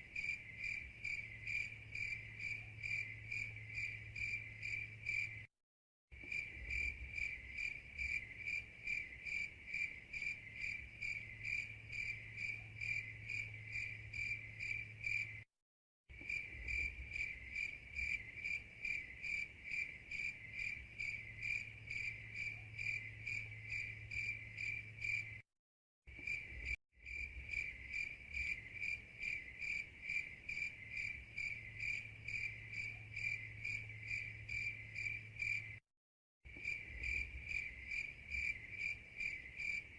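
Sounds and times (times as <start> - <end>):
crickets chirping: 0.0 - 5.5, 6.2 - 15.5, 16.1 - 25.4, 26.1 - 35.8, 36.5 - 39.9.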